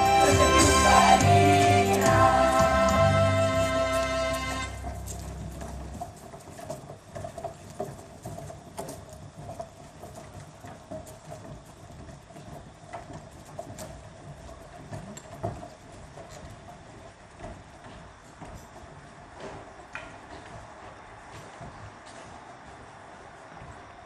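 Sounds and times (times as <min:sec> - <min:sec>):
footsteps on wooden floor: 0:00.0 - 0:24.0.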